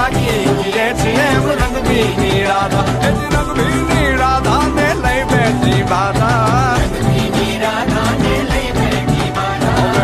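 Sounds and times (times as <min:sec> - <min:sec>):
song with steady beat: 0:00.0 - 0:10.0.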